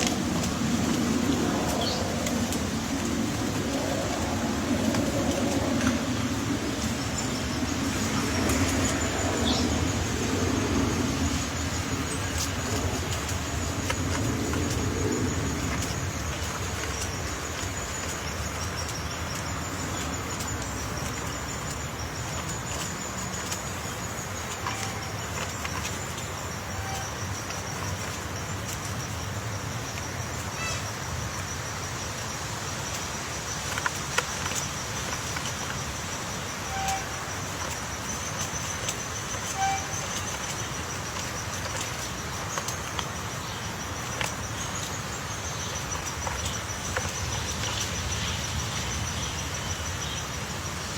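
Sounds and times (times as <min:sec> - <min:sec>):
high-pitched insect trill: 0:00.0 - 0:50.9.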